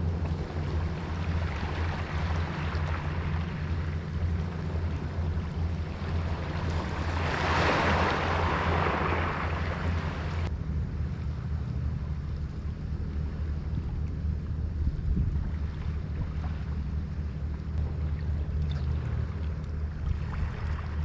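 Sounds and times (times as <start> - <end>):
boat engine humming: 0.0 - 21.0
water rushing along hull: 0.0 - 21.0.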